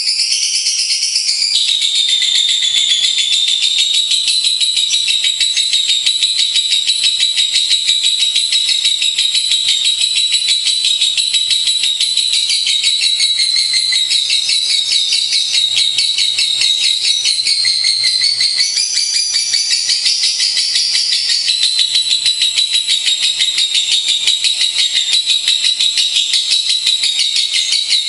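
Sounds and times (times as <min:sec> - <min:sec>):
lovebirds chattering: 0:01.2 - 0:28.0.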